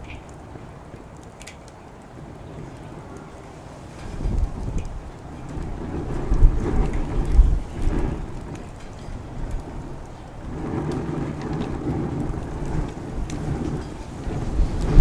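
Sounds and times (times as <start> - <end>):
campfire crackling: 0.0 - 15.0
wind gusts on microphone: 0.0 - 15.0.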